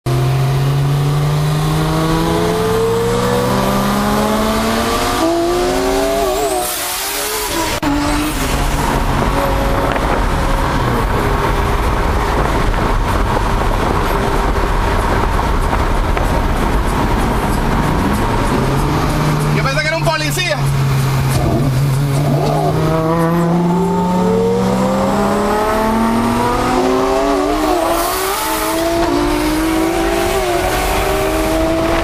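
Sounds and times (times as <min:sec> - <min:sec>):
car engine accelerating: 0:00.1 - 0:32.0
wind and road noise: 0:00.1 - 0:32.0.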